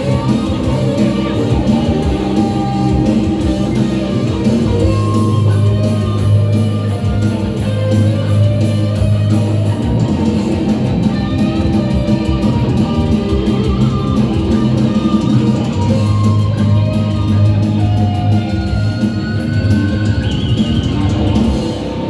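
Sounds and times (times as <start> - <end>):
electric guitar melody: 0.0 - 22.0
rock band playing: 0.0 - 22.0.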